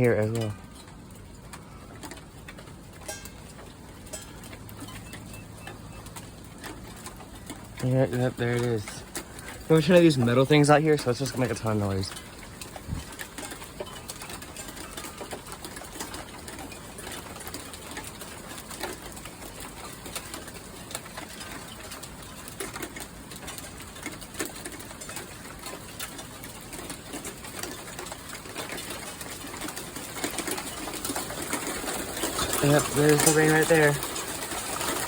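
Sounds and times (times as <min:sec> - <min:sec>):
raindrops ticking on metal: 0:00.0 - 0:35.0
steady rain hiss: 0:00.0 - 0:35.0.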